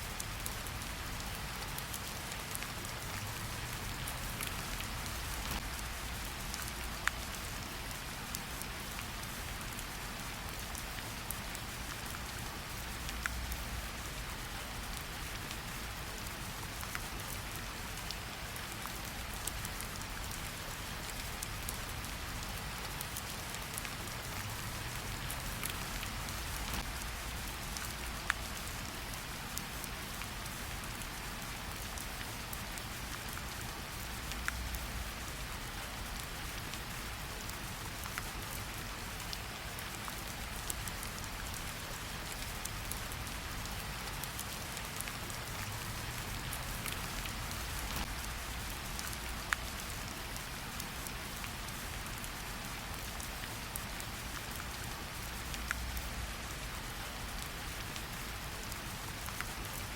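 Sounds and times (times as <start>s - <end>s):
rain pattering on leaves: 0.0s - 59.9s.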